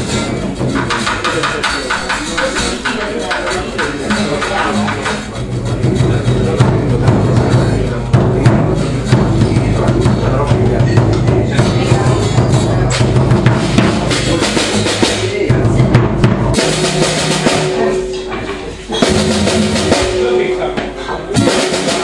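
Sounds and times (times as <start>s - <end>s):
acoustic guitar: 0.0s - 22.0s
drum kit beat: 0.0s - 22.0s.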